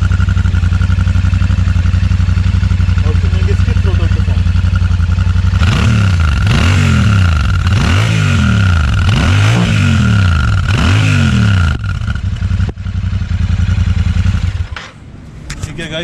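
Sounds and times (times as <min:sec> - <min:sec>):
motorcycle engine revving and idling: 0:00.0 - 0:16.0.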